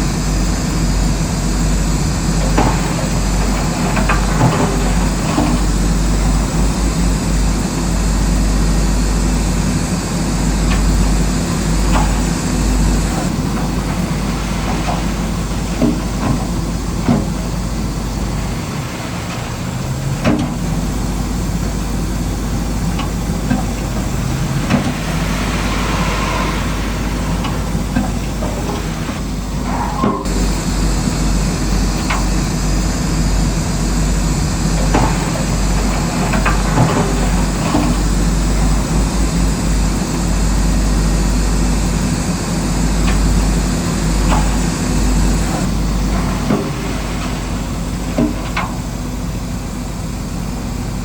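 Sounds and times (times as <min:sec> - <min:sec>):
bulldozer engine running: 0:00.0 - 0:51.0.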